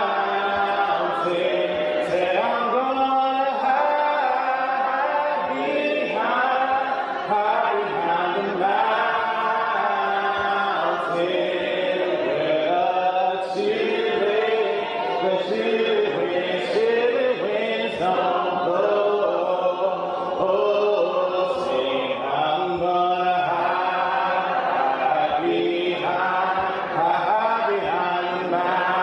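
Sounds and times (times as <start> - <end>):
congregation singing a hymn: 0.0 - 29.0.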